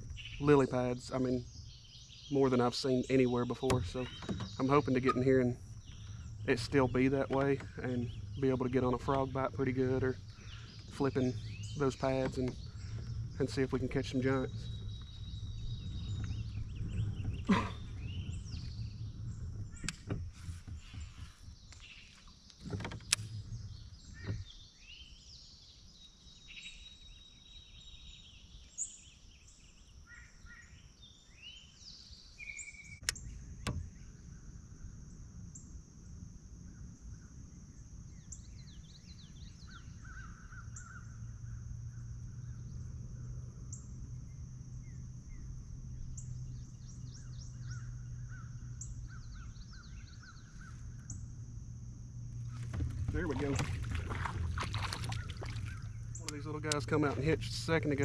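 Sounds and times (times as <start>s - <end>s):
birds chirping: 0.0s - 35.8s, 36.7s - 58.0s.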